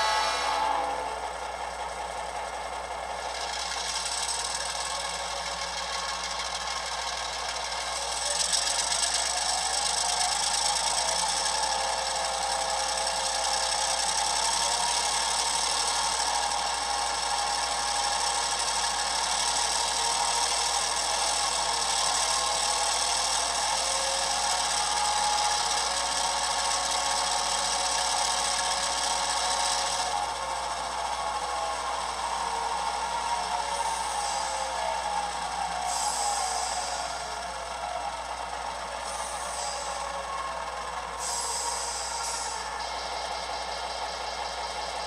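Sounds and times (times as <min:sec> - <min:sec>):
diesel engine idling through small speaker: 0:00.0 - 0:45.0.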